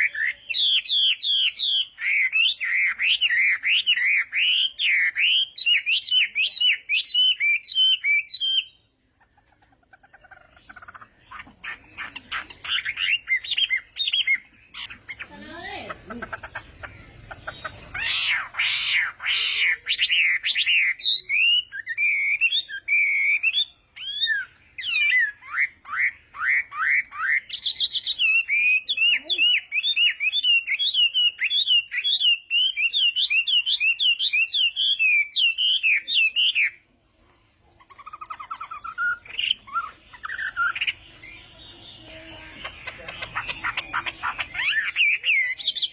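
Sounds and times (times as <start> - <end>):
songbird singing whistled phrases: 0.0 - 9.0, 10.4 - 15.8, 16.5 - 36.9, 37.8 - 45.9
bird trilling: 0.0 - 36.8, 37.7 - 45.9.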